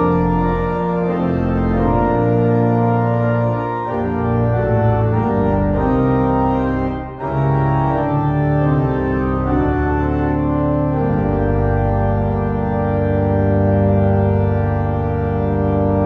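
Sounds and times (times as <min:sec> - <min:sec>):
church organ playing hymn: 0:00.0 - 0:16.0.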